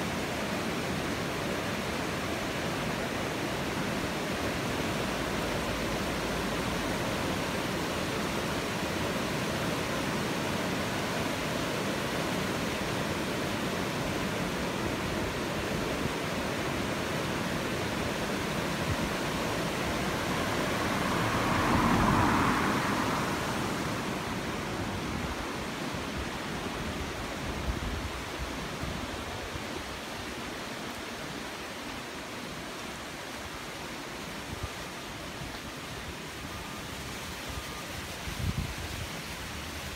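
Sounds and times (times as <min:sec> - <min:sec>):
floodwater rushing over weir: 0:00.0 - 0:39.9.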